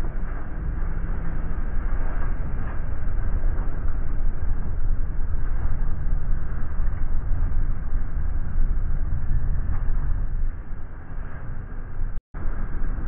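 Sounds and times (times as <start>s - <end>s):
boat engines rumbling: 0.0s - 13.0s.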